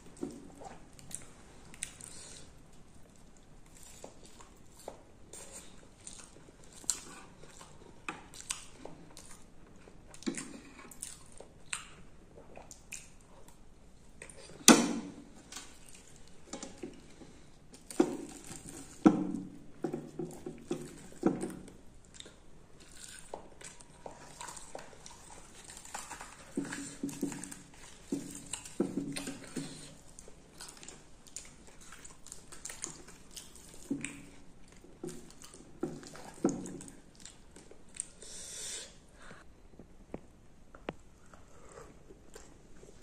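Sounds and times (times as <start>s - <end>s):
person chewing food: 0.0s - 39.5s, 40.7s - 43.0s.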